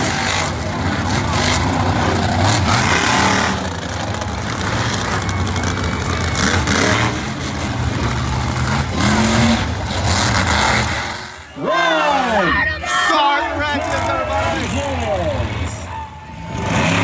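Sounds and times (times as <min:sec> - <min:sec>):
monster truck engine revving: 0:00.0 - 0:12.8, 0:13.5 - 0:17.0.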